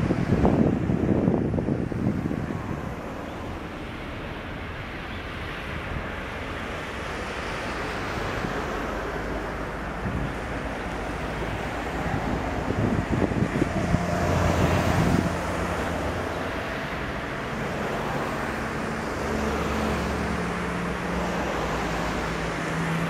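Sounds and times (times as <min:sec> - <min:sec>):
low rumble of distant engines: 0:00.0 - 0:23.0
wind buffeting microphone: 0:00.0 - 0:23.0.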